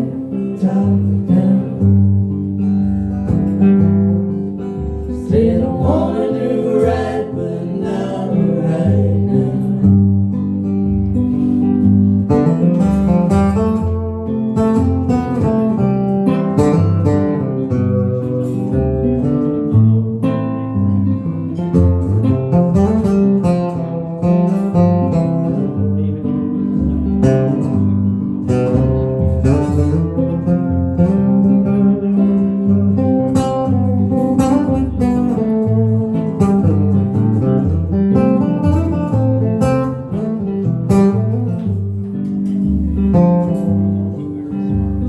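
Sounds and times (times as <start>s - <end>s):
acoustic guitar: 0.0s - 45.0s.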